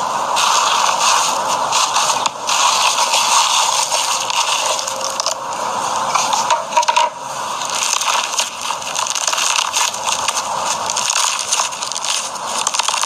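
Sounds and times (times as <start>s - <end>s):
slime crackling and popping: 0.4s - 5.5s, 6.5s - 13.0s.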